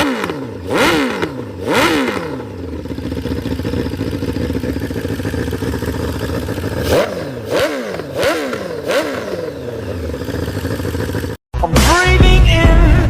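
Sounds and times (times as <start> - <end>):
motorcycle engine idling and revving: 0.0 - 11.4.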